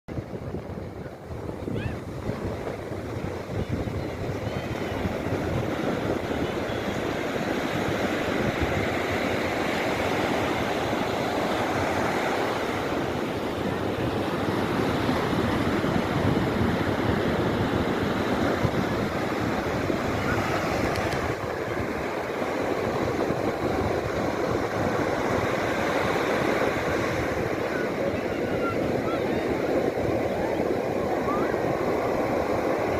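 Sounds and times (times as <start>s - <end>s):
ocean waves breaking on beach: 0.1s - 32.9s
wind on microphone: 0.1s - 32.9s.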